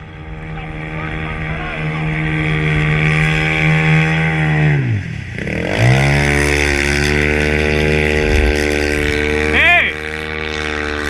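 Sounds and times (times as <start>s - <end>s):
speedboat engine running: 0.0s - 11.0s.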